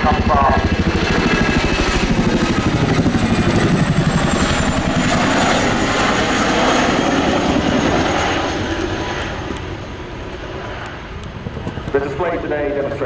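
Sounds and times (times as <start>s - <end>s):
helicopter rotor blade chop: 0.0s - 13.0s
high turbine whine: 0.0s - 13.0s.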